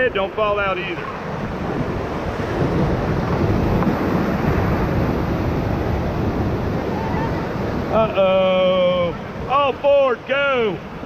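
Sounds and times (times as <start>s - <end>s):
whitewater rushing: 0.0s - 11.0s
wind buffeting microphone: 0.0s - 11.0s.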